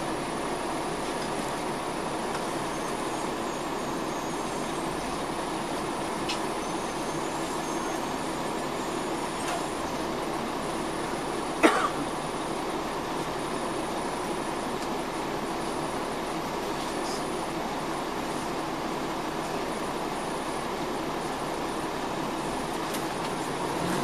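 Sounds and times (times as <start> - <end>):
coach cabin drone: 0.0 - 24.0.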